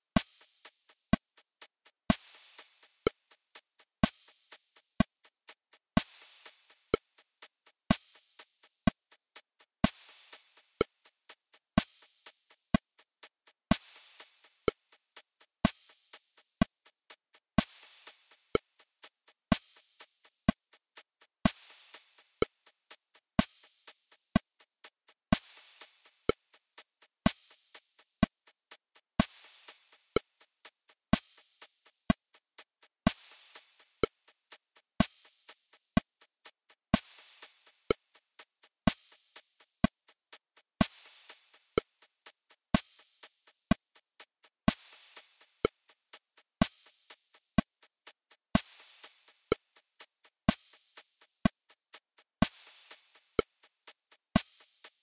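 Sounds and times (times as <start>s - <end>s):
drum machine metronome clicks: 0.0s - 55.0s.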